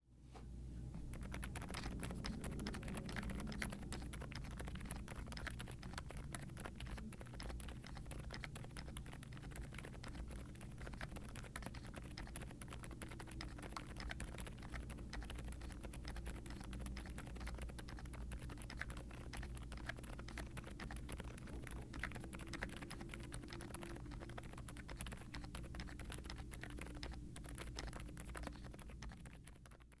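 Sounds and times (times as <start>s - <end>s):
dampened keyboard typing: 1.0s - 30.0s.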